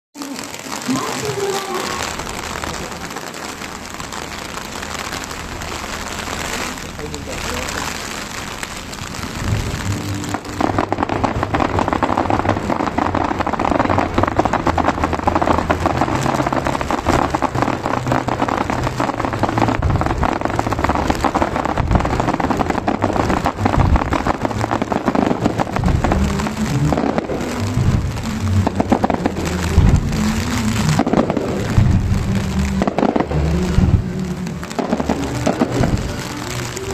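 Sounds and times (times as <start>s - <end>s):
fireworks crackling: 0.2s - 36.9s
music over loudspeakers: 0.2s - 36.9s.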